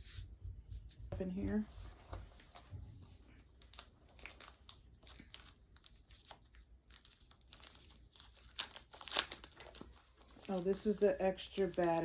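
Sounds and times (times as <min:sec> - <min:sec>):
packaging rustling: 0:01.8 - 0:12.0.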